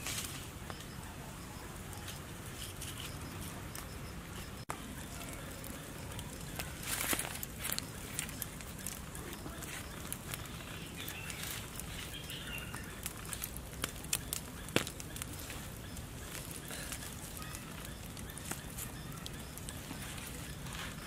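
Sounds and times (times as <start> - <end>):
campfire crackling and popping: 0.0 - 21.0
low fire hiss: 0.0 - 21.0.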